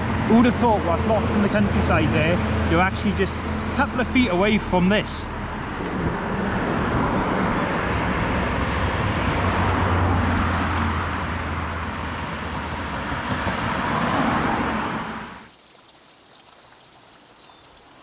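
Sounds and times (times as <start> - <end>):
road traffic passing: 0.0 - 15.5.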